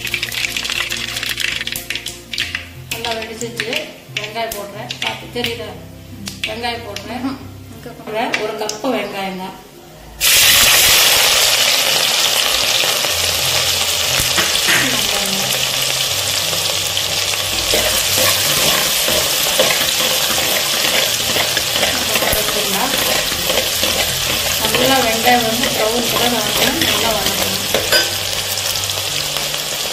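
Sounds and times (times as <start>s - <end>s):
shallots sizzling in hot oil: 0.0s - 9.4s, 10.2s - 29.9s.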